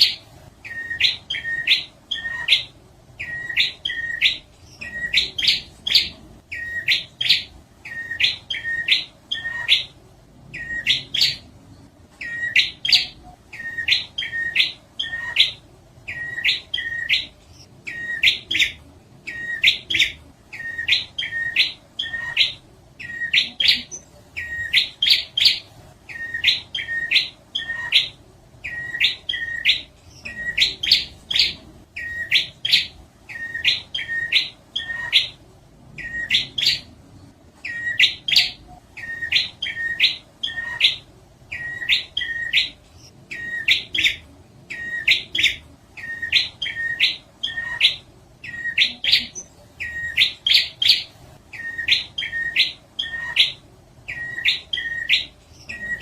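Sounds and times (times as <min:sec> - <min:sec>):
bird chirping: 0:00.0 - 0:56.0.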